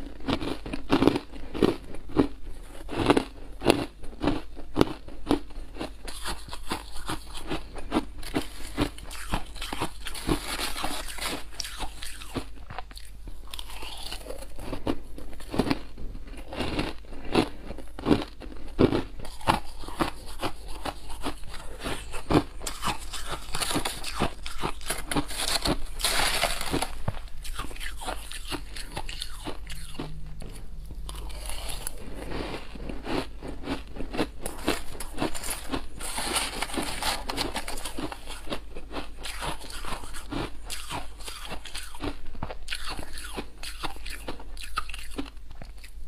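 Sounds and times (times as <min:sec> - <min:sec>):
chewing ice crunches: 0:00.0 - 0:30.2, 0:31.0 - 0:46.0.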